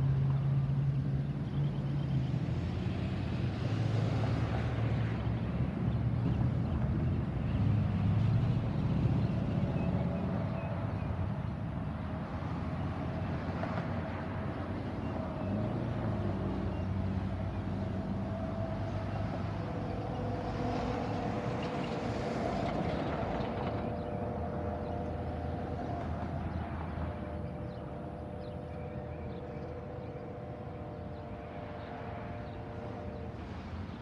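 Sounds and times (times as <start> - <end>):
freight train rumble: 0.0 - 34.0.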